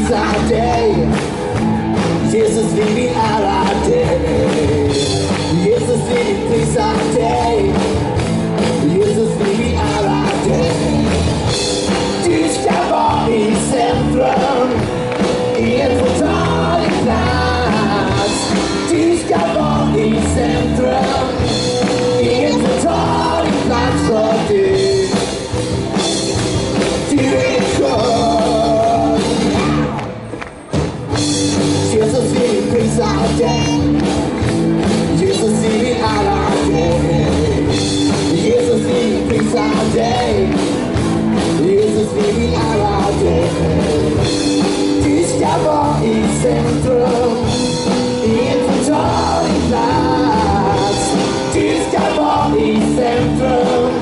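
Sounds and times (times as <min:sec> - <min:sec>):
band and choir singing worship song: 0:00.0 - 0:25.7, 0:26.8 - 0:29.9, 0:31.8 - 0:54.0.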